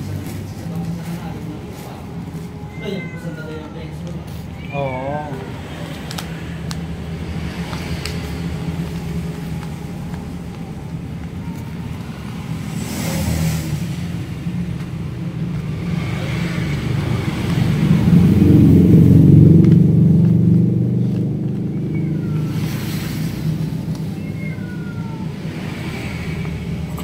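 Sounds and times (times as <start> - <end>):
vehicle engine hum: 0.0 - 27.0.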